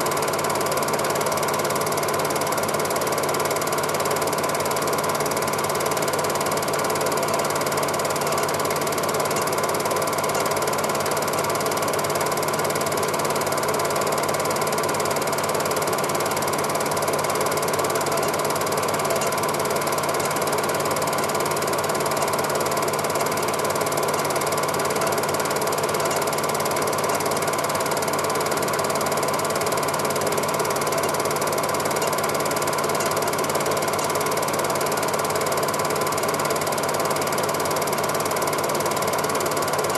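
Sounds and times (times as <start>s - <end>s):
film projector clatter: 0.0s - 39.9s
projector motor whir: 0.0s - 39.9s.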